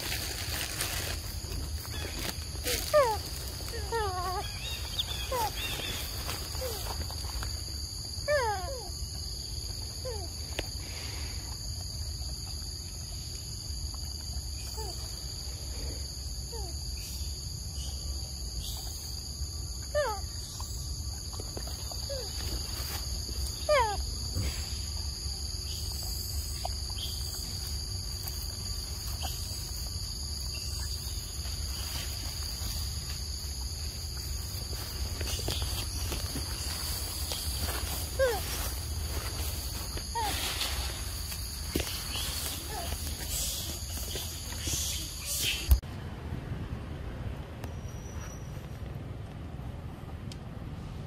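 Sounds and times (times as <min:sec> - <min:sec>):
high-pitched insect chorus: 0:00.0 - 0:45.8.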